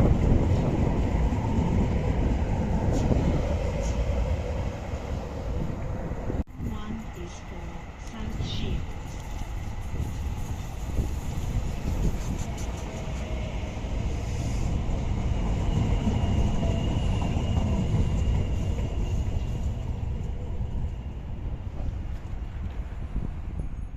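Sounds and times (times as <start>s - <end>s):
train rumble: 0.0s - 23.9s.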